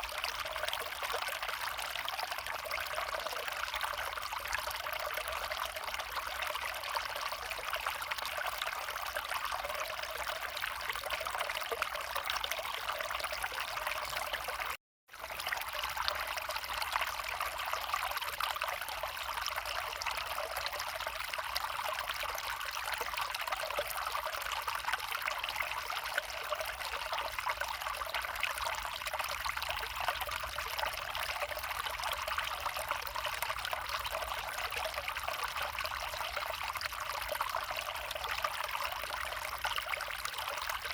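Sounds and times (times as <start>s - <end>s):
brook trickling over stones: 0.0s - 40.9s.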